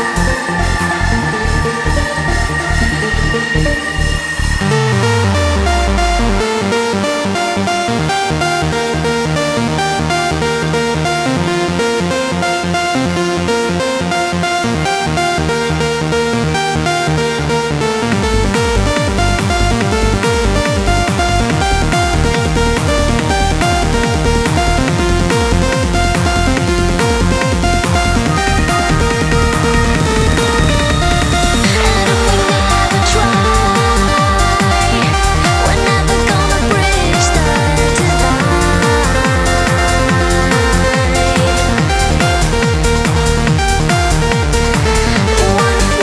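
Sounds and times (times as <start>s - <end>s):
electronic dance music: 0.0s - 46.0s
falling bass sweep: 0.0s - 46.0s
heavy bass beat: 0.0s - 46.0s.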